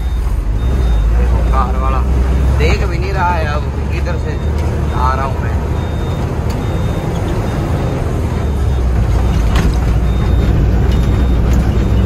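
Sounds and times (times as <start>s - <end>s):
diesel truck engine running: 0.0s - 12.0s
road noise: 0.0s - 12.0s.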